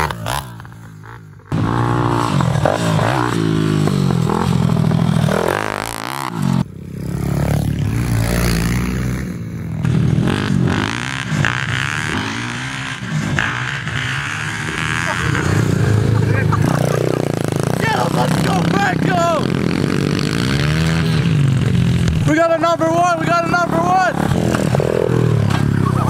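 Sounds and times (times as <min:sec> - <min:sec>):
small motorbike engines revving: 0:00.0 - 0:26.0.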